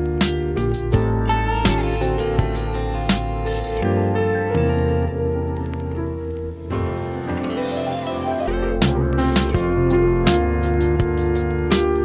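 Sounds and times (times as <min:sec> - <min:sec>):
guitar music over a beat: 0:00.0 - 0:12.0.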